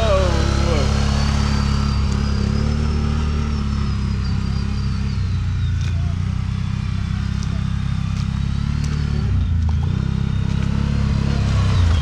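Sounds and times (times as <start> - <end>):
atv engine running through mud: 0.0 - 12.0.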